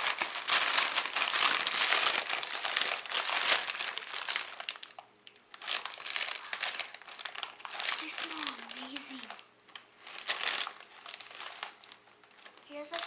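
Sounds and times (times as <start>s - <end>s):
foil crisp bag crinkling: 0.0s - 13.0s.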